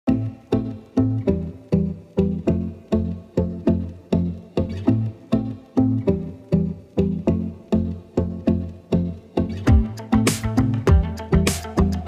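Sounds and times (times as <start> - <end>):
plucked low string notes: 0.1 - 12.0.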